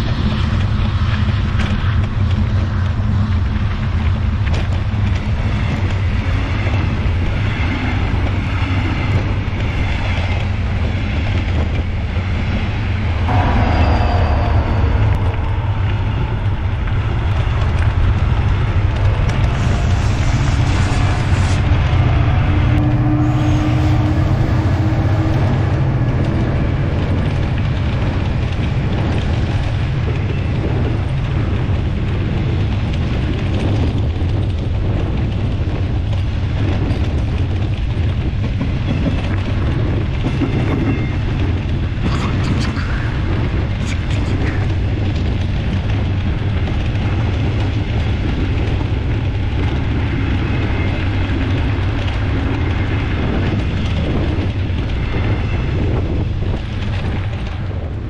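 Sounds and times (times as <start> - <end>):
passing train low rumble: 0.0 - 58.0.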